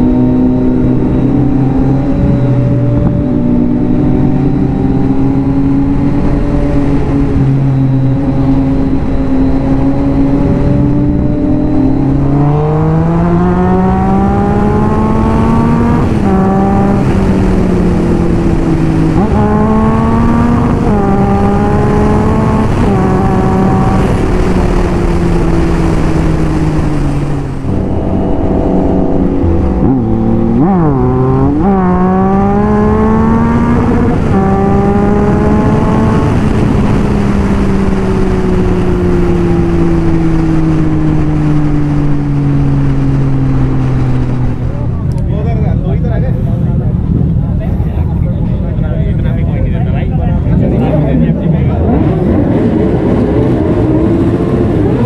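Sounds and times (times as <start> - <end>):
motorcycle engine shifting gears: 0.0 - 45.5
wind rush on microphone: 0.0 - 55.0.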